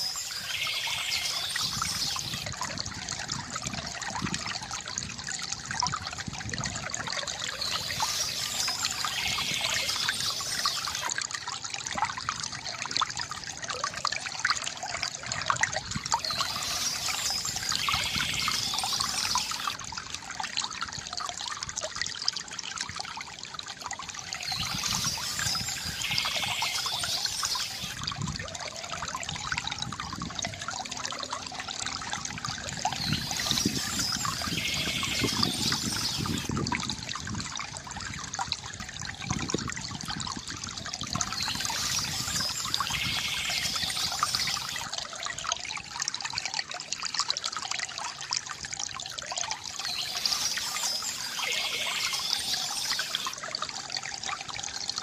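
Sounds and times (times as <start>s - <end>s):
fountain water trickling and splashing: 0.0s - 55.0s.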